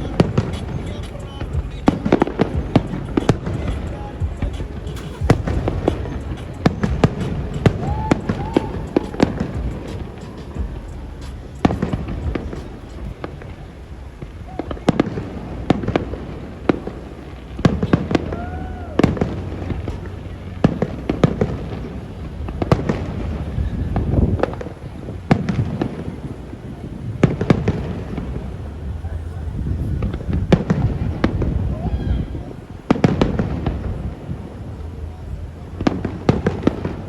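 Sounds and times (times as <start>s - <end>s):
continuous low rumble: 0.0s - 37.0s
fireworks bangs and pops: 0.0s - 37.0s.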